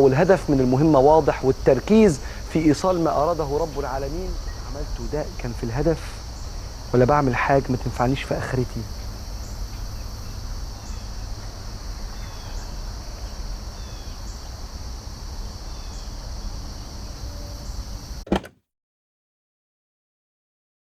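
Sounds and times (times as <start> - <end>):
crickets trilling: 0.0 - 18.2.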